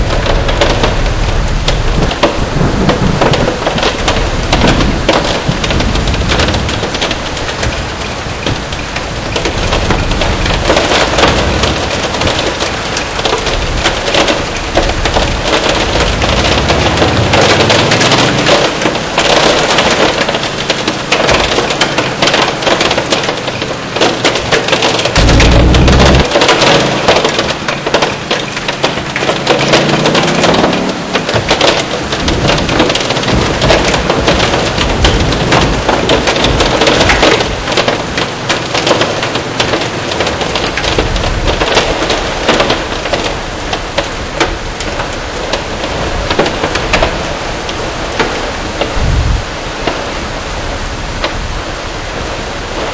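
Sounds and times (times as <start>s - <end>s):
rain and hail on car roof: 0.0s - 52.9s.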